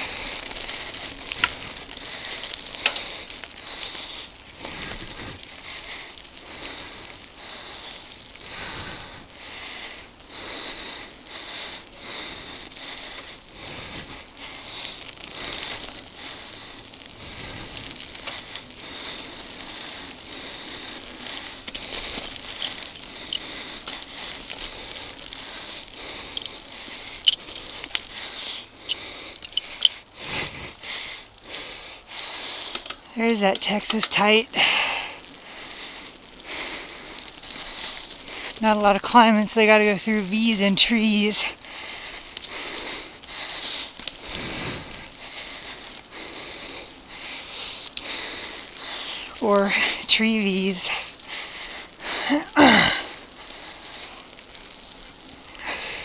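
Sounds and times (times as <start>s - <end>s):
bike clicks and rattles: 0.0s - 56.0s
bike tyres on gravel: 0.0s - 56.0s.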